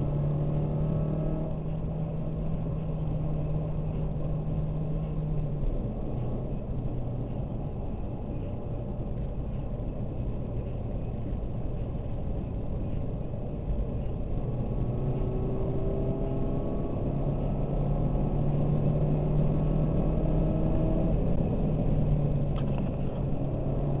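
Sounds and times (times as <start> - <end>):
car engine hum: 0.0 - 24.0
tyre and road noise: 0.0 - 24.0.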